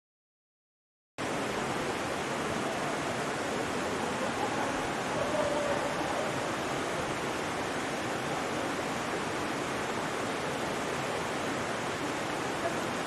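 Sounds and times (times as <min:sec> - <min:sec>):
waterfall rushing: 0:01.2 - 0:13.0.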